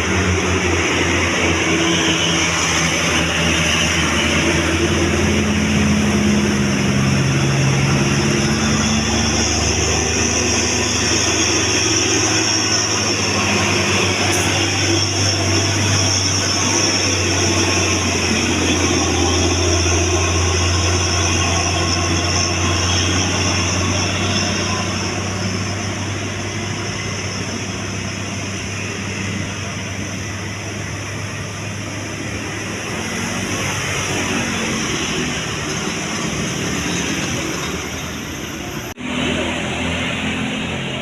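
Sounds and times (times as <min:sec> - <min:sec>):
diesel bus engine running: 0:00.0 - 0:41.0
road noise: 0:00.0 - 0:41.0.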